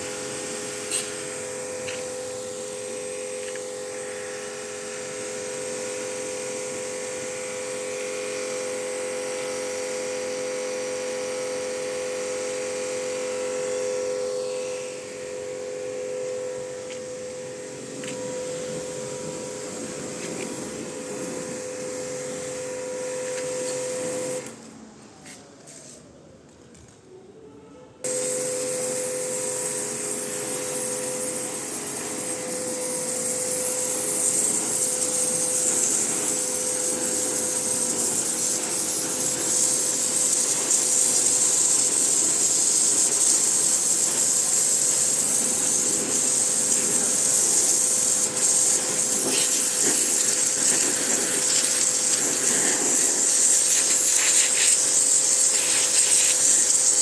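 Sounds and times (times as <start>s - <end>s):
pressure washer spraying: 0.0s - 24.6s, 28.1s - 57.0s
pressure washer hum: 0.0s - 24.7s, 28.0s - 57.0s.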